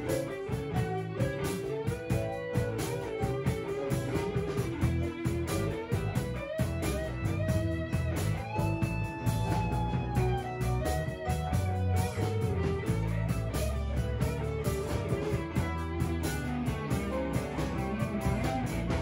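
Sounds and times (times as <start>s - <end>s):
guitar-led instrumental music: 0.0s - 19.0s.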